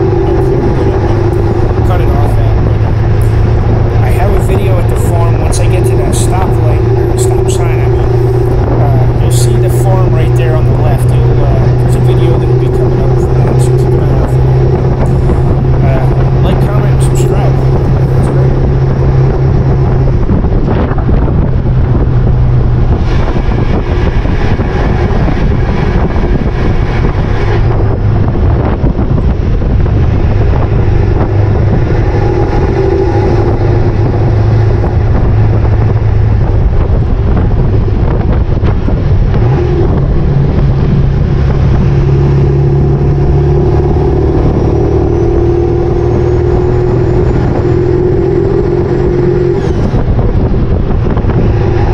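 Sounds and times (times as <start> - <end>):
diesel truck engine: 0.0 - 51.9
road noise: 0.0 - 51.9
wind noise: 0.0 - 51.9.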